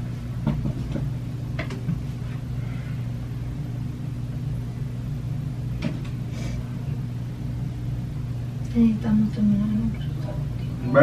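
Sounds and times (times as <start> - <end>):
low room hum and rumble: 0.0 - 11.0.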